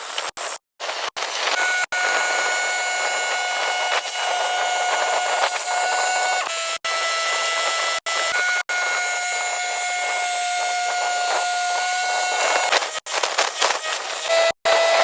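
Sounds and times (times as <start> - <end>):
saw blade cutting log: 0.0 - 15.0.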